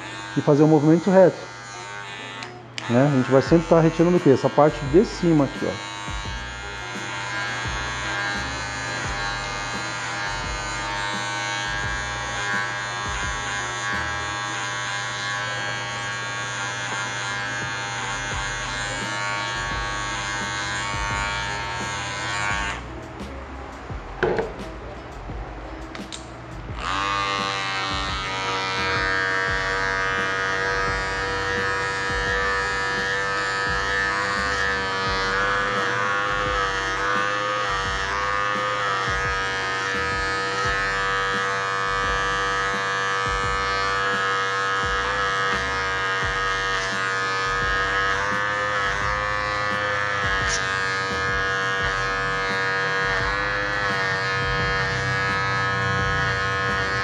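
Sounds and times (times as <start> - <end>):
electric hair clipper buzzing: 0.0 - 23.4, 24.2 - 24.7, 25.8 - 57.0.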